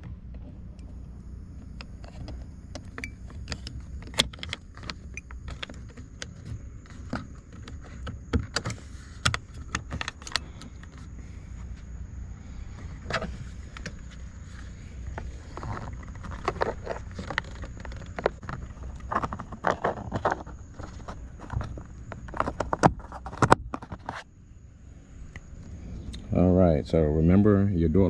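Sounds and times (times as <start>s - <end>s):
low background rumble: 0.0s - 28.0s.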